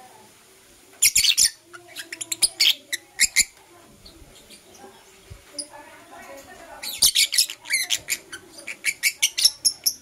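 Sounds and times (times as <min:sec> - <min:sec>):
lovebirds chirping: 0:00.9 - 0:10.0.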